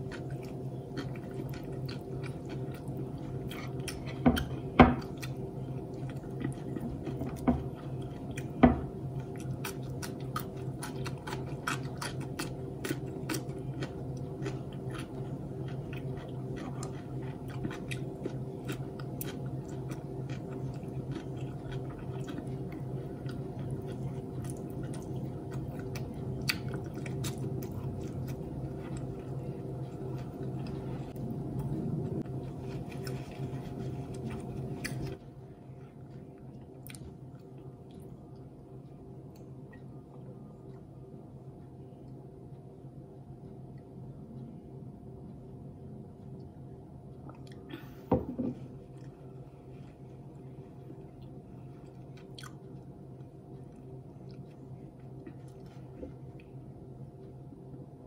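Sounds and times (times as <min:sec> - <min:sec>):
person chewing: 0:00.0 - 0:42.2, 0:48.6 - 0:57.5
low hum: 0:00.0 - 0:58.0.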